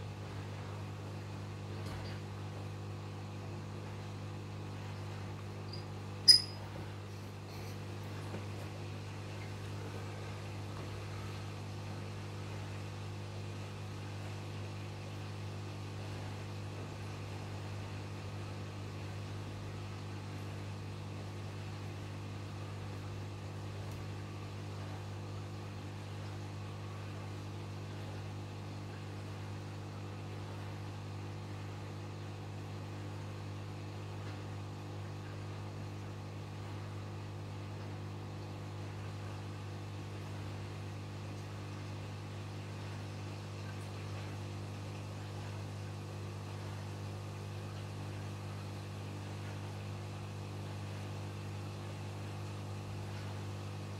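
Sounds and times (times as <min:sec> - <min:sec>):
aquarium pump humming: 0:00.0 - 0:53.9.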